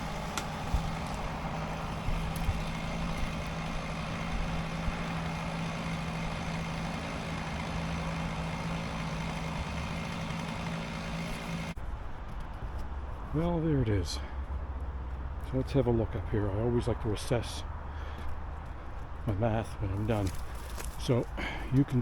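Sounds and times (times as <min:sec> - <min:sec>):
engine idling: 0:00.0 - 0:11.8, 0:13.3 - 0:22.0.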